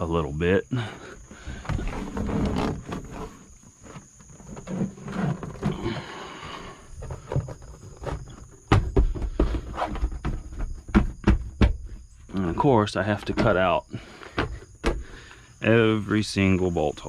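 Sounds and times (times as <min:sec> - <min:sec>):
vinyl flooring rustling and creaking: 0:01.0 - 0:16.6
knocks and thumps: 0:01.3 - 0:15.3.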